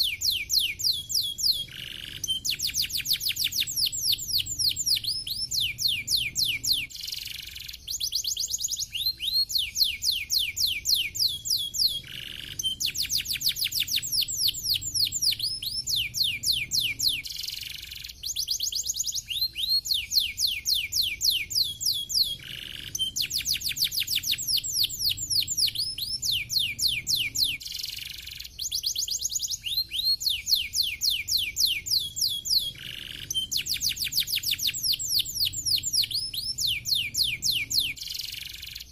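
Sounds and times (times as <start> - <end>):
canary singing rapid trills: 0.0 - 38.9.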